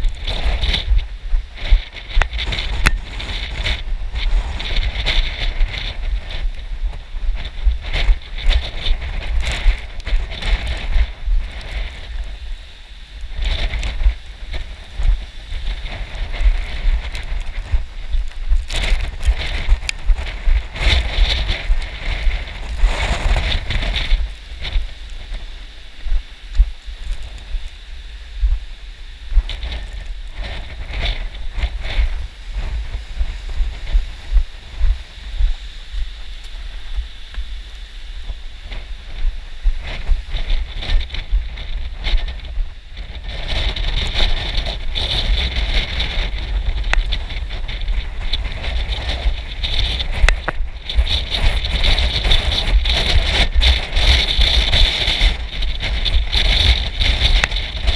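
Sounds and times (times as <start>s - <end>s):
footsteps crunching on gravel: 0.0s - 57.9s
wind buffeting microphone: 0.0s - 57.9s.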